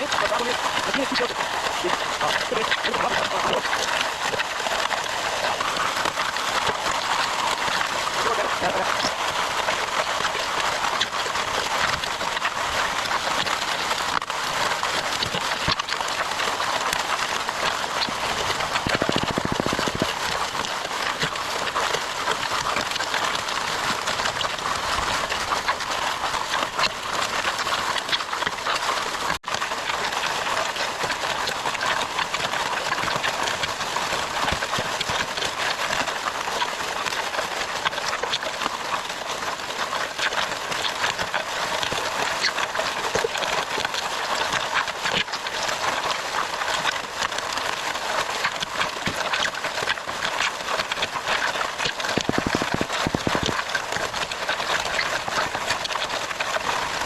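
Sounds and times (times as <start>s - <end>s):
wet concrete and gravel churning: 0.0s - 57.0s.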